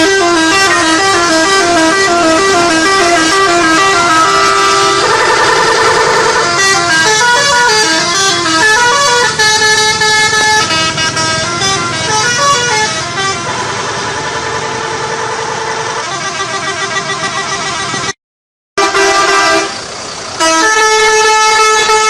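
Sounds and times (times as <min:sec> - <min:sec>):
musical bus horns: 0:00.0 - 0:18.2, 0:18.8 - 0:22.0.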